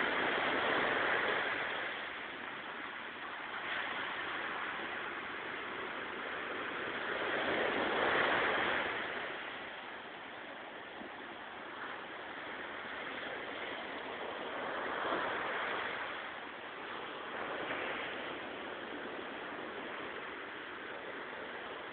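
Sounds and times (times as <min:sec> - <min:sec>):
hiss of surf: 0:00.0 - 0:21.9
sea waves breaking on shore: 0:00.0 - 0:21.9.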